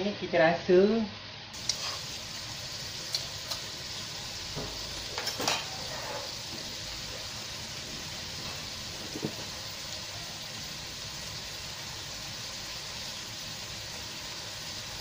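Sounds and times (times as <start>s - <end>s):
food sizzling in a pan: 1.5s - 15.0s.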